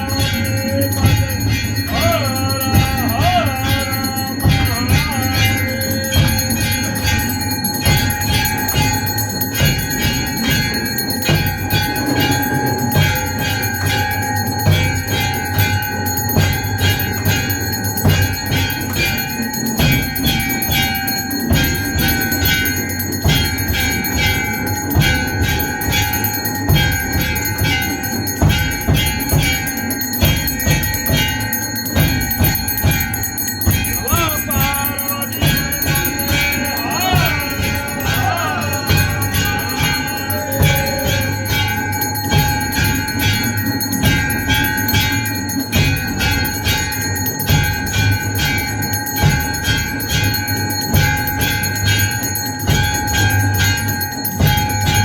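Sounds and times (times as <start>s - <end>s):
low thumping beat: 0.0s - 53.8s
bells ringing rapidly: 0.0s - 55.0s.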